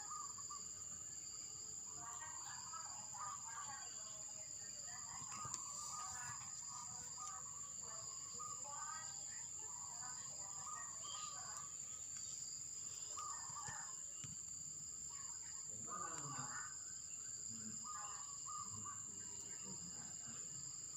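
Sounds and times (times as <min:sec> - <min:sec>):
crickets trilling: 0:00.0 - 0:20.9.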